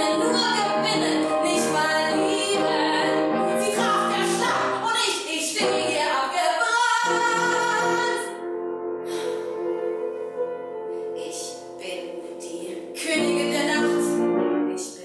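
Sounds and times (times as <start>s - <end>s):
woman singing classically: 0.0s - 8.4s, 11.2s - 15.0s
piano accompaniment: 0.0s - 15.0s.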